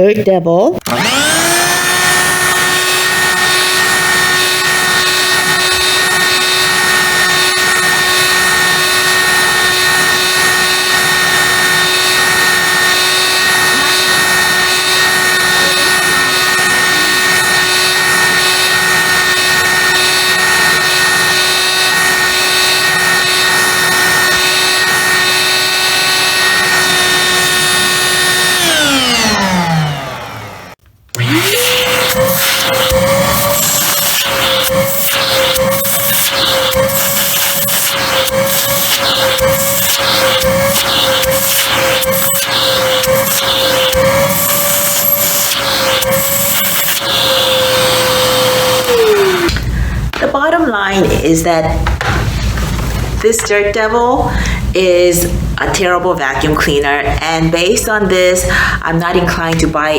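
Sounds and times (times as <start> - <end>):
handheld vacuum cleaner motor: 0.8 - 49.7.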